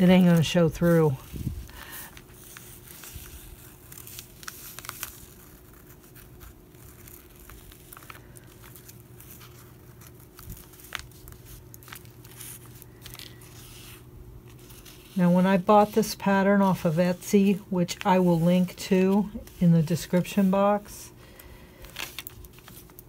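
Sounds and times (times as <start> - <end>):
faint steady hum: 0.0 - 23.0
paper rustling: 0.0 - 23.0.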